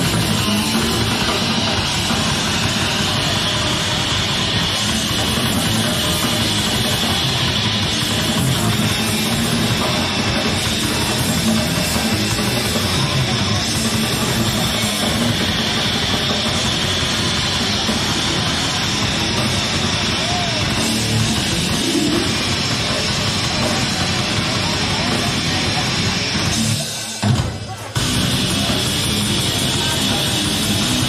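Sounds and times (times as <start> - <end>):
bass guitar: 0.0 - 31.0
distorted electric guitars: 0.0 - 31.0
drum kit: 0.0 - 31.0.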